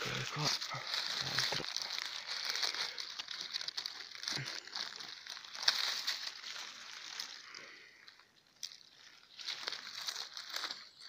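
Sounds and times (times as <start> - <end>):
dry leaves crackling and rustling: 0.0 - 11.0.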